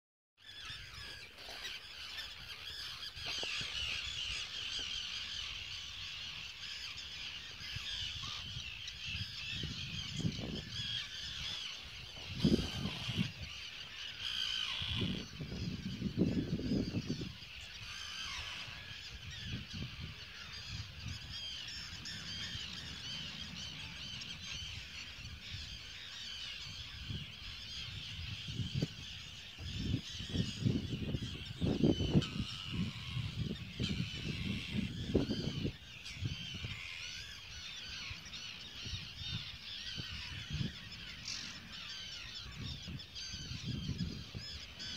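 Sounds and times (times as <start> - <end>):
terns calling: 0.4 - 44.9.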